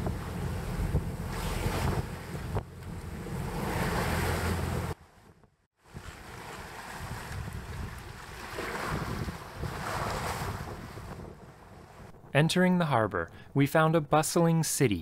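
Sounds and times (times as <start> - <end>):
waves splashing along hull: 0.0 - 12.2
wind buffeting microphone: 0.0 - 12.3.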